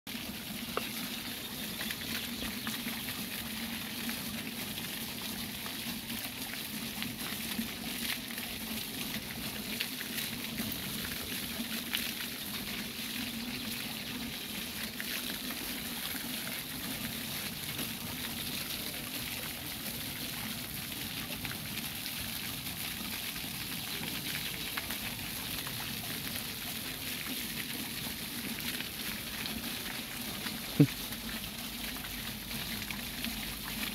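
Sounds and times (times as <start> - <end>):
water jets splashing on stones: 0.1 - 33.9.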